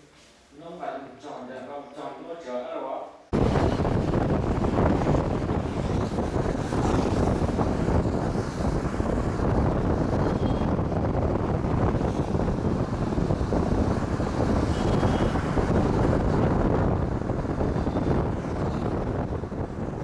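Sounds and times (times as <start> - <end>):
road noise from moving vehicle: 3.3 - 20.0
wind rumbling on microphone: 3.3 - 20.0.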